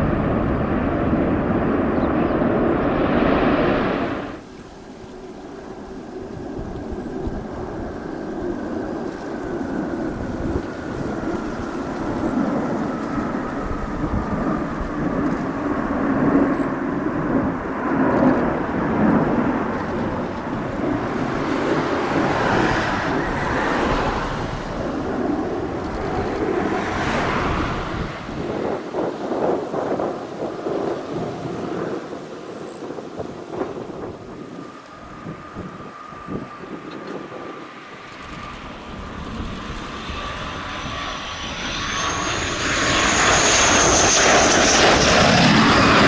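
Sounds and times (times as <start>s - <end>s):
jet engine whine: 0.0s - 46.0s
jet roar overhead: 0.0s - 46.0s.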